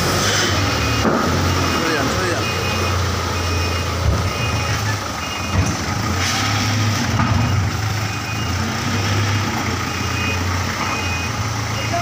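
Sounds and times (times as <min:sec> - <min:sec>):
diesel engine running: 0:00.0 - 0:12.0
reversing alarm beeping: 0:00.5 - 0:12.0.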